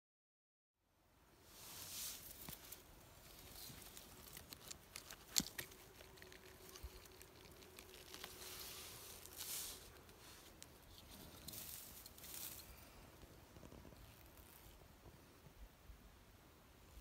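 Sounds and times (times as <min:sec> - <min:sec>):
faint rustling: 0:01.4 - 0:15.6.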